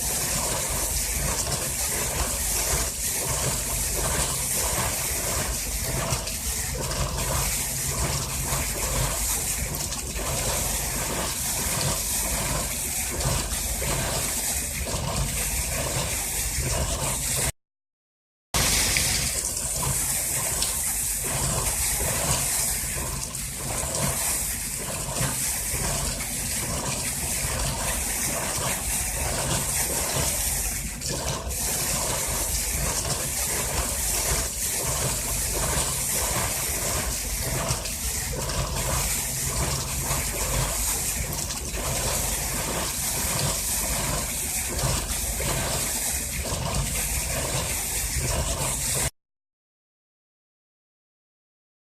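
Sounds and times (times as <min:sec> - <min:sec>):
water and air gushing from bore: 0:00.0 - 0:17.6, 0:18.6 - 0:49.2.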